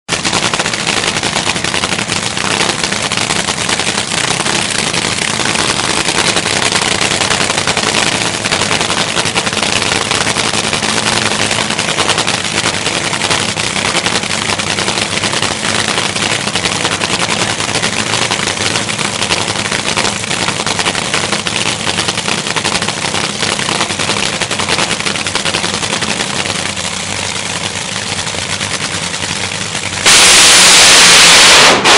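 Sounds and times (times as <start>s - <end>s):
dragster engine idling: 0.1s - 31.9s.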